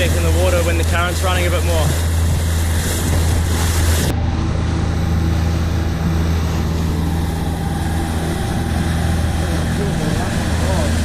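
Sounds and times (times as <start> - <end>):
boat engine droning: 0.0 - 11.0
wind and water hiss: 0.0 - 11.0.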